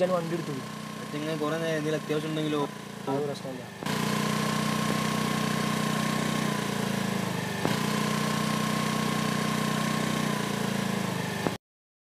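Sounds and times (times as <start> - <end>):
scooter engine running: 0.0 - 11.6.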